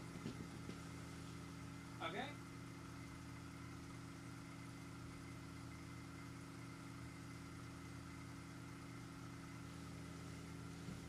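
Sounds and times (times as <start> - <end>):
laser cutter humming and whining: 0.0 - 11.0.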